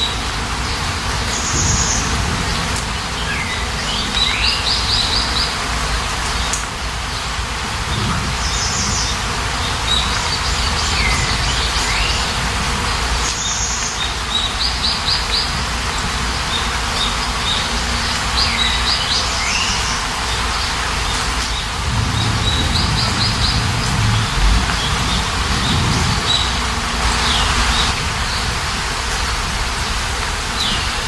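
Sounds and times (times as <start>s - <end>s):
rain hissing: 0.0s - 31.0s
songbirds chirping: 0.0s - 31.0s.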